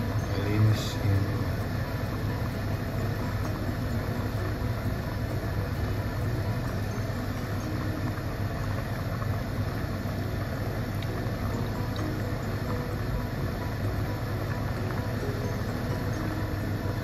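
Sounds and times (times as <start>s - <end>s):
gas stove rumble and hiss: 0.0s - 17.0s
soup boiling: 0.0s - 17.0s.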